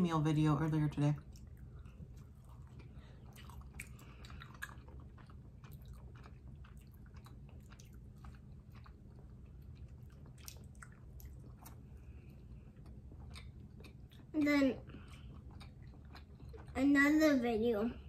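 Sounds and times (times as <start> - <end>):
people chewing fruit: 1.0 - 18.0.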